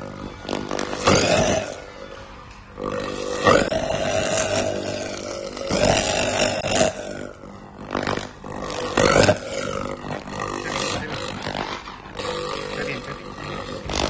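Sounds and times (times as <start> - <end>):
laser cleaning rasping buzz: 0.0 - 14.0.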